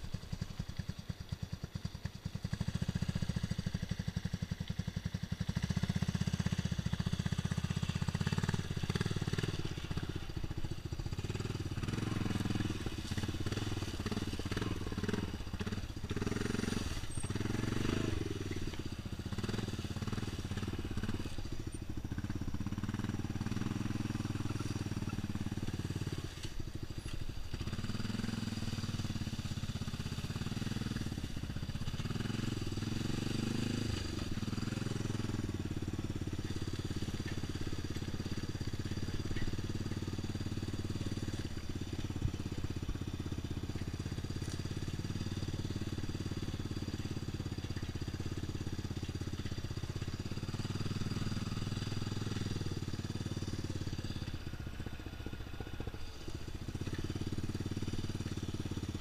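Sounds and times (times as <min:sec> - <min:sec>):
atv engine running: 0:00.0 - 0:59.0
leaves and sticks crackling under tyres: 0:00.0 - 0:59.0.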